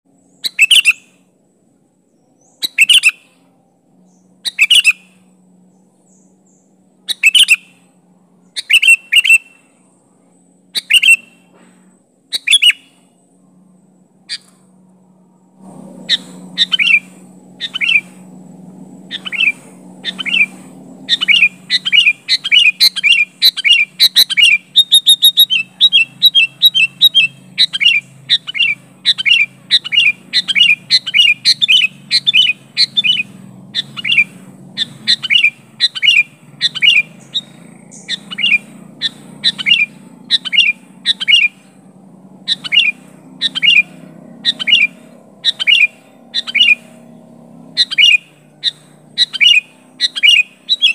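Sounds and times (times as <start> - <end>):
faint low hum: 0.1 - 50.9
bulbul calling: 0.2 - 1.4, 2.4 - 10.0, 10.6 - 13.2, 14.1 - 14.8, 15.6 - 50.9.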